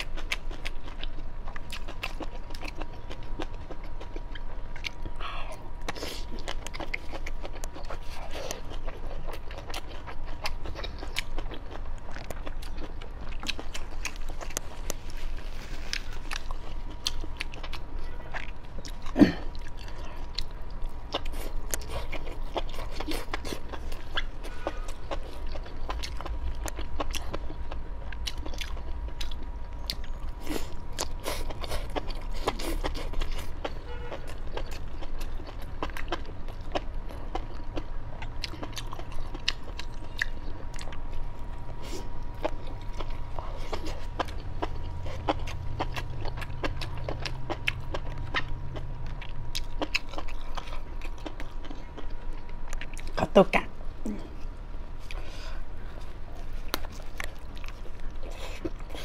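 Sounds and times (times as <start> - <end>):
person biting and chewing: 0.0 - 53.2, 54.3 - 59.0.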